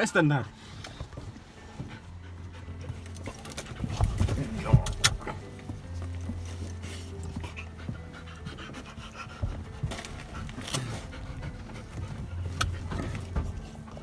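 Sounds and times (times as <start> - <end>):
dog panting: 0.3 - 14.0.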